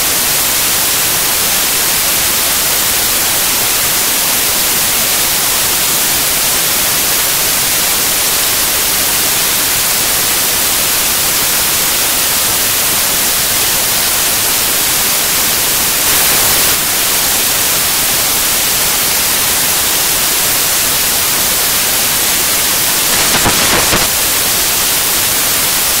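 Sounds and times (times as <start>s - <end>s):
static hiss: 0.1s - 26.0s.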